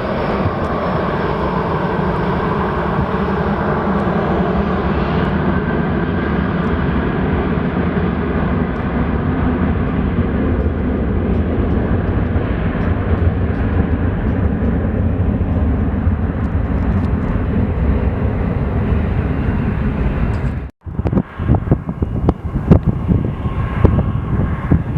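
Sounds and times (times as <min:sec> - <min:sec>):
airliner engines rumbling: 0:00.0 - 0:24.9.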